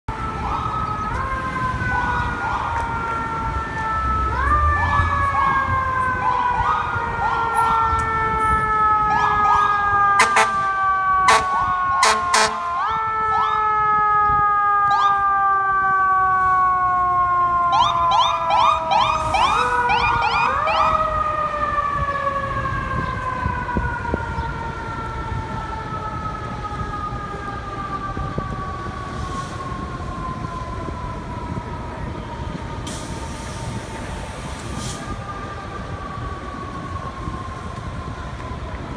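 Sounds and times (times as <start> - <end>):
fire engine siren wailing: 0.1 - 38.9
low rumble of city traffic: 0.1 - 38.9
siren yelp: 0.1 - 38.9.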